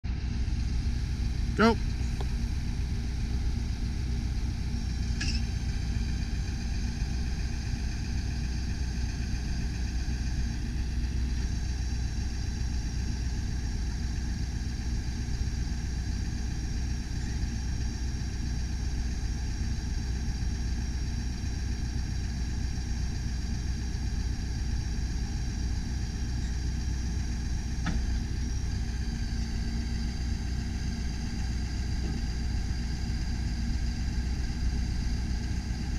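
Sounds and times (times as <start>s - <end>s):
truck engine idling: 0.0s - 35.9s.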